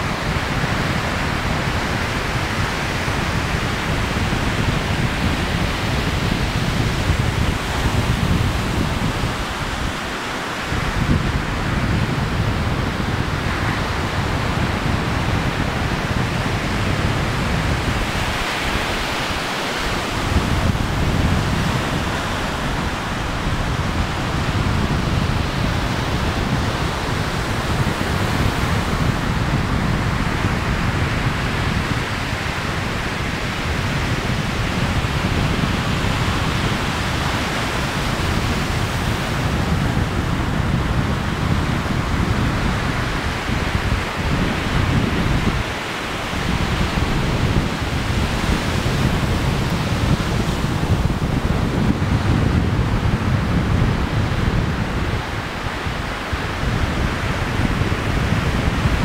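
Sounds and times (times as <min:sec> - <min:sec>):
ocean surf on beach: 0:00.0 - 0:59.0
wind buffeting microphone: 0:00.0 - 0:59.0.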